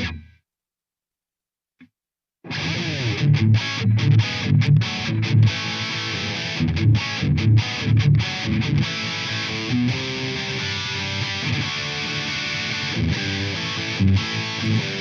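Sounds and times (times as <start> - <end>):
overdriven electric guitar chords: 0.0 - 0.3, 2.5 - 15.0.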